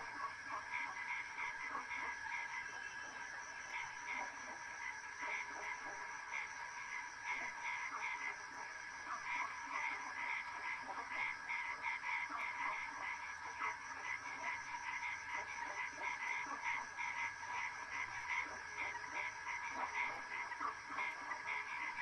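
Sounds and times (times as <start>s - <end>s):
outdoor ambience: 0.0s - 22.0s.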